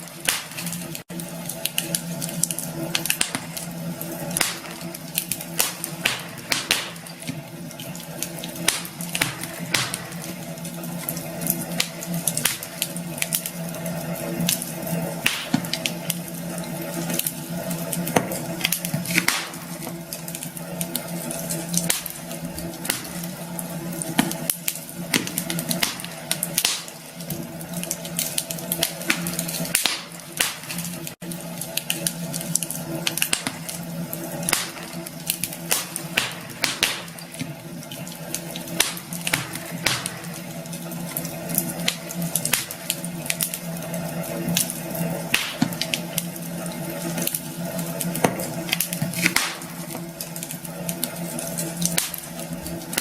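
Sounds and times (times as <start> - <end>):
campfire crackling and popping: 0.0 - 53.0
steady fire hiss: 0.0 - 53.0.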